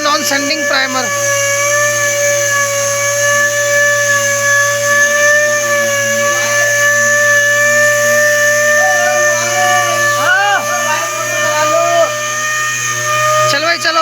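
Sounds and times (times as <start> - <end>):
power sander whining: 0.0 - 14.0.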